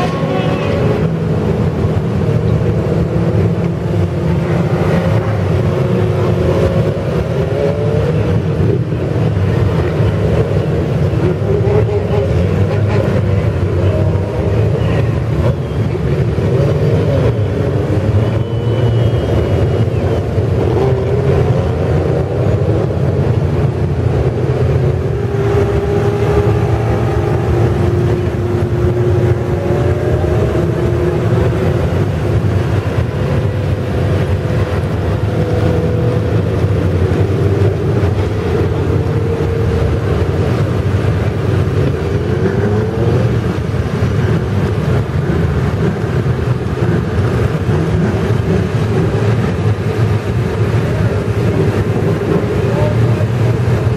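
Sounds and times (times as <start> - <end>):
race engines revving: 0.0 - 53.9.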